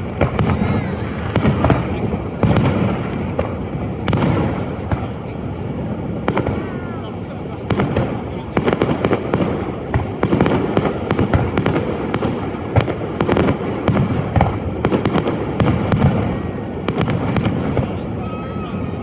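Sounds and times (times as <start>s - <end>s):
fireworks booms and crackles: 0.0s - 19.0s.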